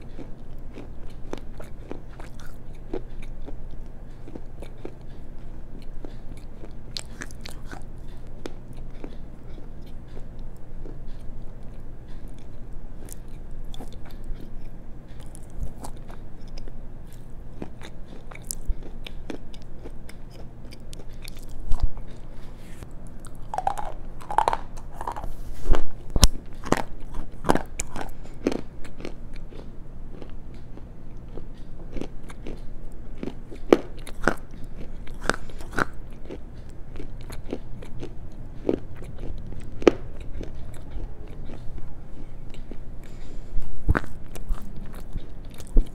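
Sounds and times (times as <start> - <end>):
chewing stones crunching: 0.0 - 45.9.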